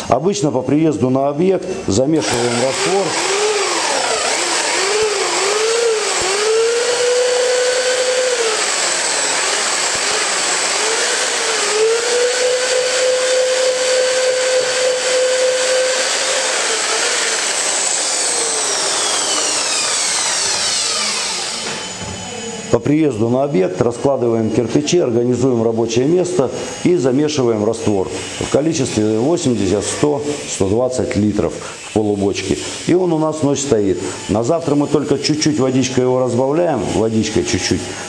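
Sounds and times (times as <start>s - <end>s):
electric drill mixing mortar: 1.6s - 38.0s.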